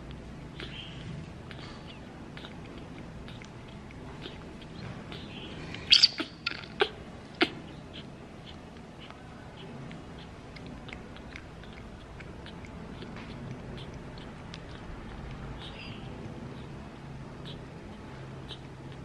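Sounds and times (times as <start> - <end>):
baby monkey sucking from bottle: 0.0 - 19.0.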